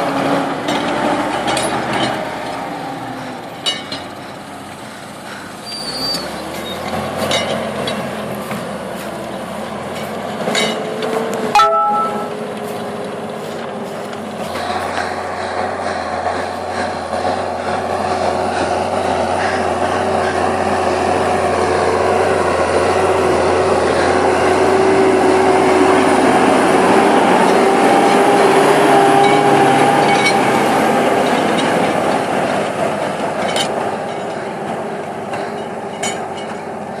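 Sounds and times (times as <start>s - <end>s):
tractor diesel engine under load: 0.0s - 11.6s, 12.3s - 37.0s.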